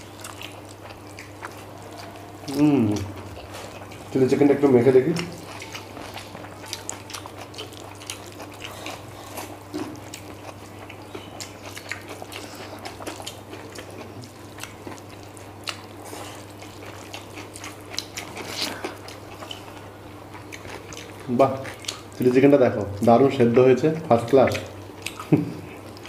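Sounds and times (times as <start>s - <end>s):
chewing and lip smacks: 0.0s - 23.2s, 24.3s - 26.0s
steady low hum: 0.0s - 26.0s.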